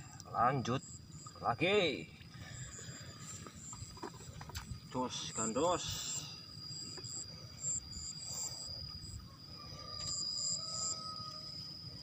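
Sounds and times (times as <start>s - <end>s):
insect chirps: 0.0s - 12.0s
insects trilling: 0.0s - 12.0s.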